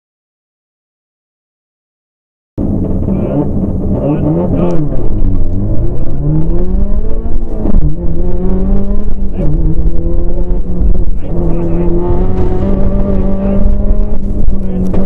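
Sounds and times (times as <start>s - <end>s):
car engine accelerating: 2.6s - 15.0s.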